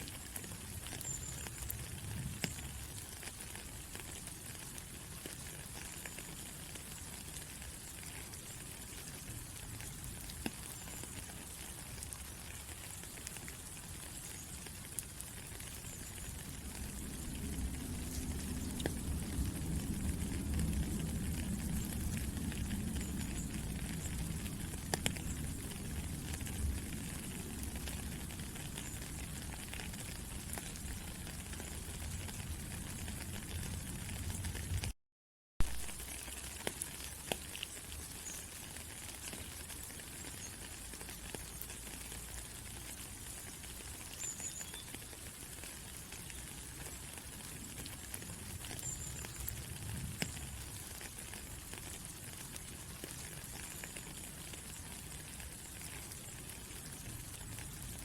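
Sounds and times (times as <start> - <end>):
steady rain falling: 0.0 - 35.0, 35.6 - 58.0.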